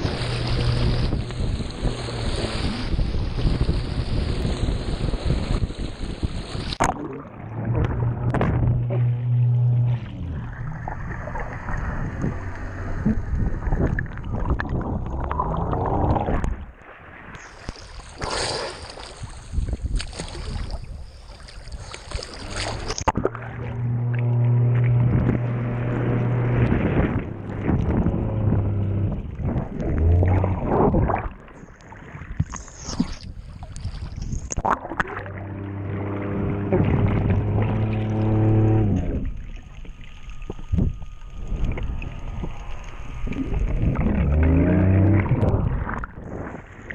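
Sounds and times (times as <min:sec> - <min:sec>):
underwater electric motor hum: 0:00.0 - 0:16.6, 0:21.7 - 0:31.6, 0:34.1 - 0:46.9
rushing water and bubbles: 0:00.0 - 0:46.9.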